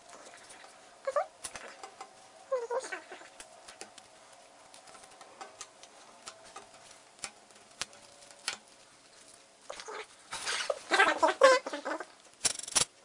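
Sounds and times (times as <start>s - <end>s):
scraping and rustling: 0.0s - 13.0s.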